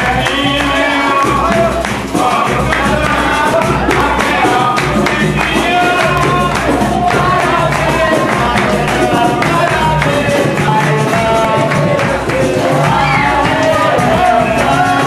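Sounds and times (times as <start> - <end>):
percussion rhythm: 0.0 - 15.0
voices singing: 0.0 - 15.0.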